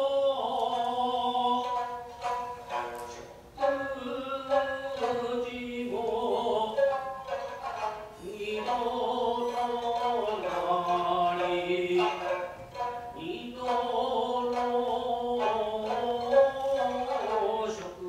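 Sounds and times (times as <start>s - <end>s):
plucked shamisen strikes: 0.0s - 18.0s.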